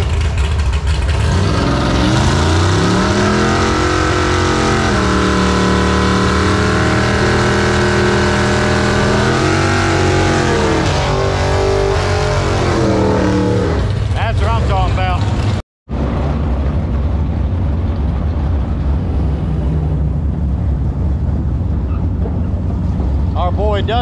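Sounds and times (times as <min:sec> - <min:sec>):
drag car engine revving: 0:00.0 - 0:24.0.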